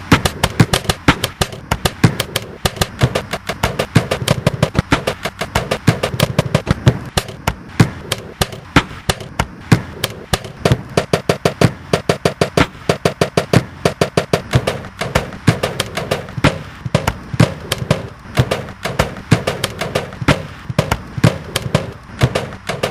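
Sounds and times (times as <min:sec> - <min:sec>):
knocking on household appliances: 0:00.0 - 0:22.9
steady hum: 0:00.0 - 0:22.9.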